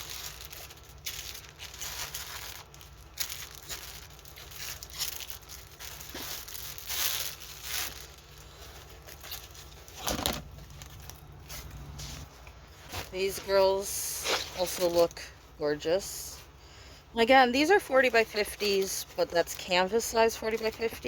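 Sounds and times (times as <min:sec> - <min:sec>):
plastic crinkling and rustling: 0:00.0 - 0:16.5, 0:17.2 - 0:21.0.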